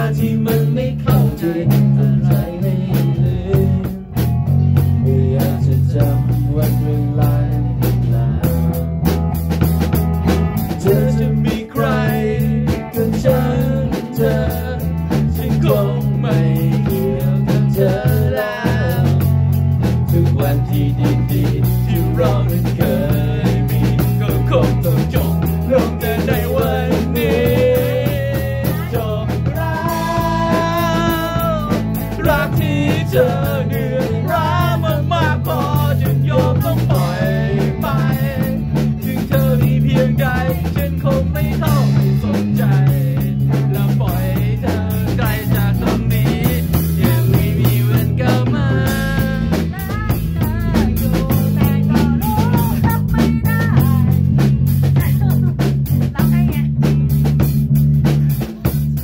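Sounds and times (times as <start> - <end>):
bass guitar: 0.0 - 59.0
drum kit with cymbals: 0.0 - 59.0
electric guitar melody: 0.0 - 59.0.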